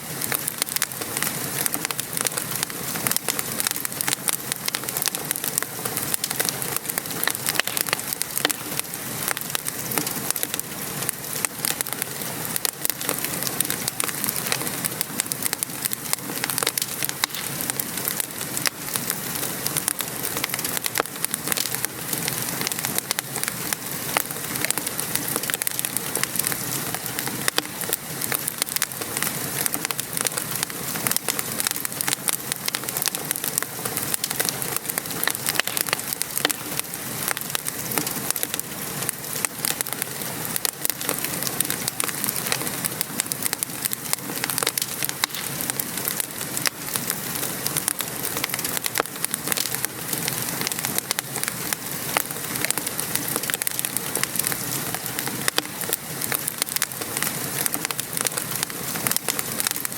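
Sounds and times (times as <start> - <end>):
rain pattering: 0.0 - 59.9
wood fire crackling and popping: 0.0 - 59.9.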